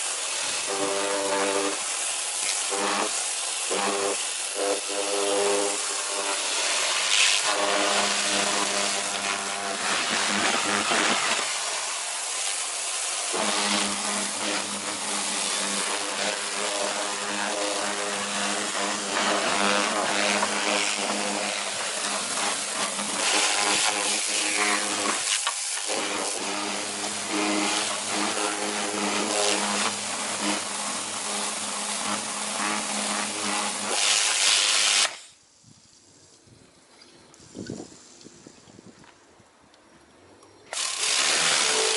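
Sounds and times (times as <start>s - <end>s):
pressure washer motor humming: 0.0s - 35.1s, 40.7s - 41.9s
water jet spraying into sink: 0.0s - 35.3s, 40.7s - 41.9s.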